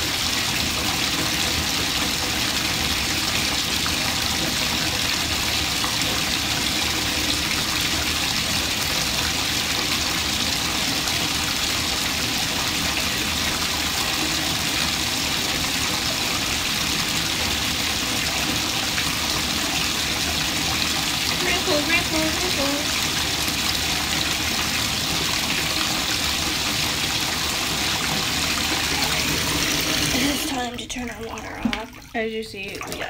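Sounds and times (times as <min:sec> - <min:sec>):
faucet water pouring into bath: 0:00.0 - 0:33.0.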